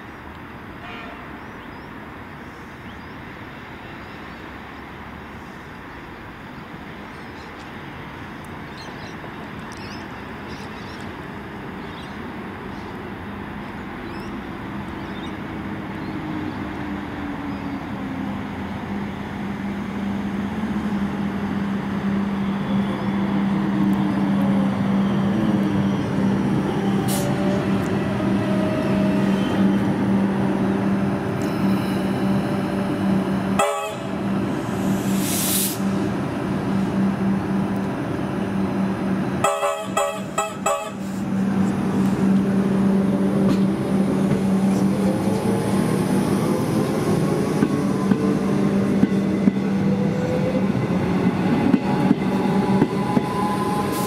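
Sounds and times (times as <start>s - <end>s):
electric train approaching: 7.9s - 54.0s.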